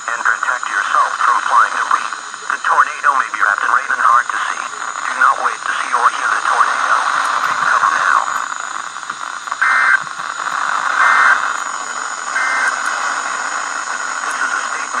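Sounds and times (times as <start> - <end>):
radio hiss: 0.0 - 15.0
screechy data bursts: 0.0 - 15.0.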